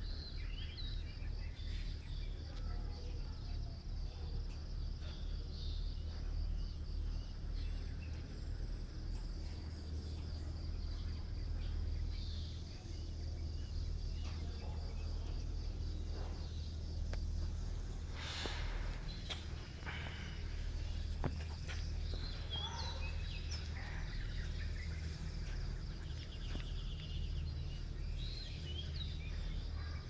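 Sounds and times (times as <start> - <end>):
constant low rumble: 0.0 - 30.0
insects chirring: 0.0 - 30.0.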